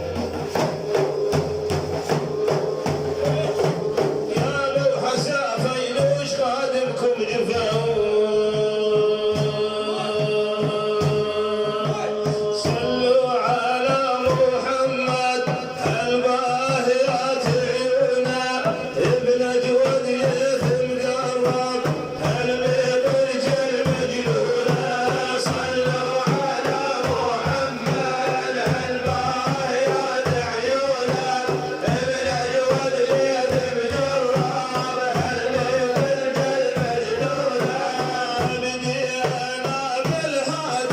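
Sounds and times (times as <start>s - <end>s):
hand drums beat: 0.0s - 40.9s
man singing devotional song: 0.0s - 40.9s.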